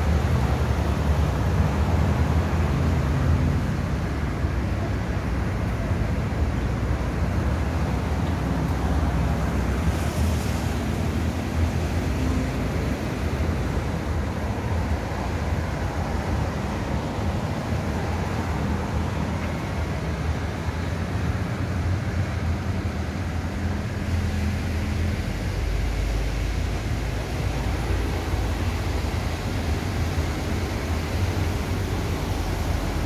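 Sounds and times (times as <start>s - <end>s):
bus engine rumble: 0.0s - 33.0s
road traffic rumble: 0.0s - 33.0s.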